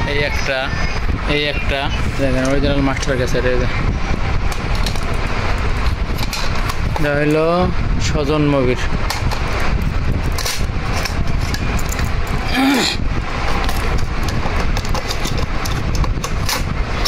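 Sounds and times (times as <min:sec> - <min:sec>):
steady noisy rumble: 0:00.0 - 0:17.0.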